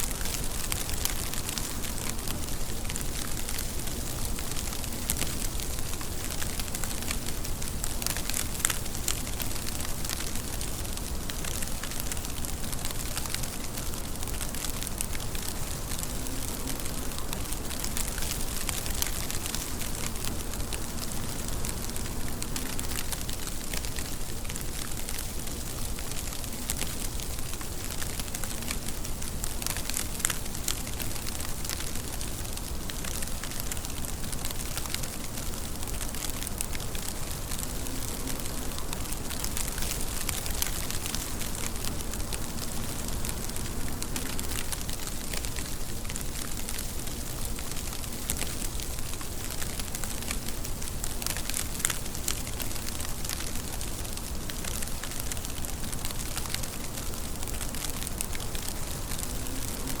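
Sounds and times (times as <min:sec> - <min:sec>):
raindrops ticking on a surface: 0:00.0 - 1:00.0
steady rain falling: 0:00.0 - 1:00.0.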